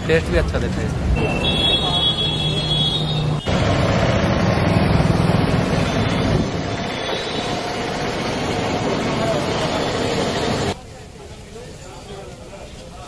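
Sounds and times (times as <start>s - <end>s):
street noise with low rumble: 0.0s - 13.0s.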